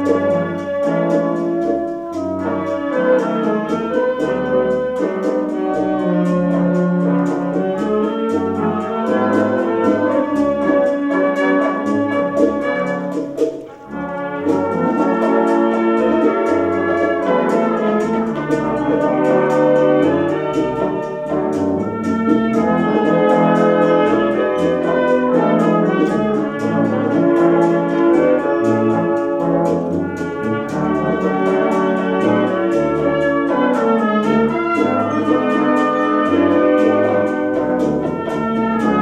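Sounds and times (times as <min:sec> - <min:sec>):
low brass: 0:00.0 - 0:39.0
percussion beat: 0:00.0 - 0:39.0
trumpets and trombones: 0:00.0 - 0:39.0.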